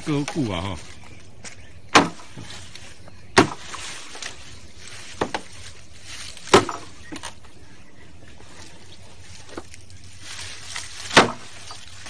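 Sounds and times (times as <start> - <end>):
steady low background noise: 0.0 - 12.0.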